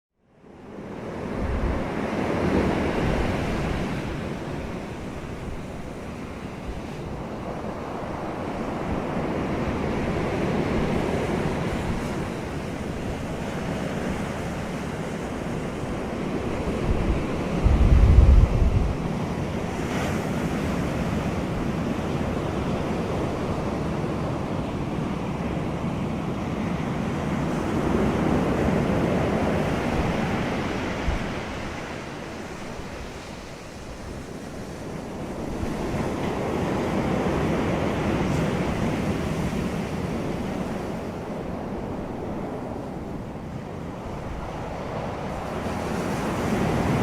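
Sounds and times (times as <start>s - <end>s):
wind: 0.1s - 47.0s
waves breaking: 0.9s - 47.0s
wind buffeting microphone: 0.9s - 47.0s.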